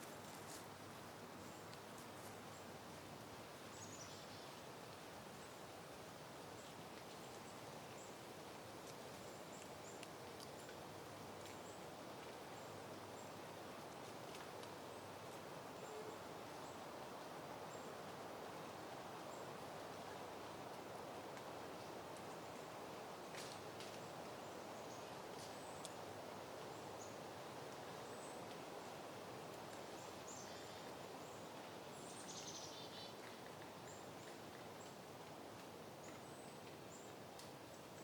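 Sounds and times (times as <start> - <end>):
wind rustling foliage: 0.0 - 38.0.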